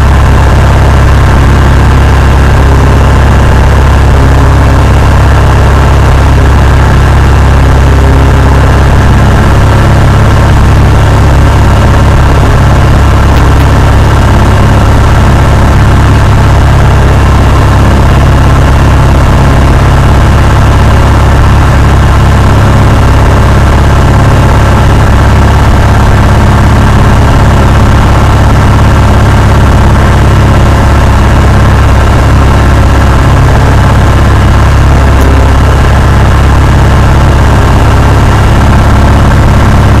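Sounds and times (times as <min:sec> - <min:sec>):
propeller plane engine running: 0:00.0 - 0:40.0.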